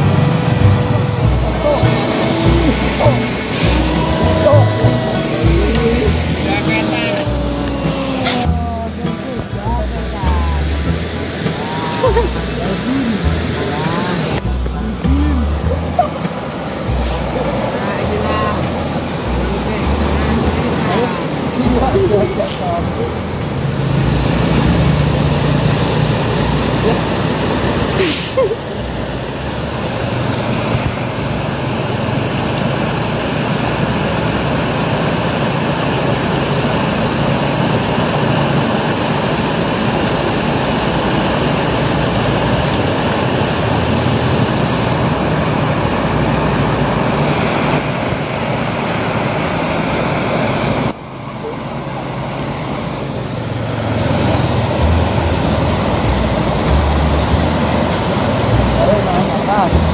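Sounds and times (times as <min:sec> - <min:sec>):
water rushing through dam outlet: 0:00.0 - 0:59.9.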